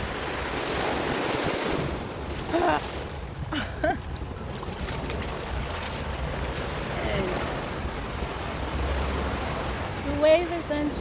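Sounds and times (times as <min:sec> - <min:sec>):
ocean waves washing onto beach: 0:00.0 - 0:11.0
wind buffeting microphone: 0:00.0 - 0:11.0.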